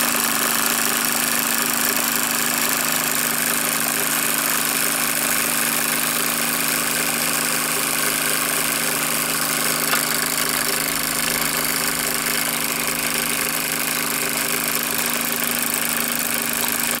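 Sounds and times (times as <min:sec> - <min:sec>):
fast mechanical rattle: 0:00.0 - 0:17.0.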